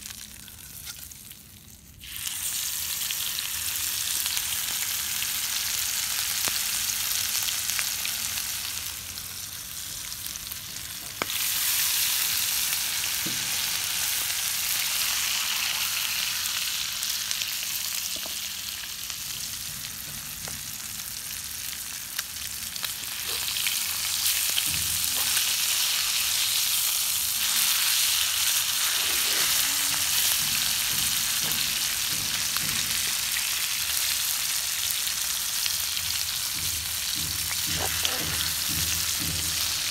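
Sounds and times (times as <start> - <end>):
fish frying in hot oil: 1.8 - 39.9.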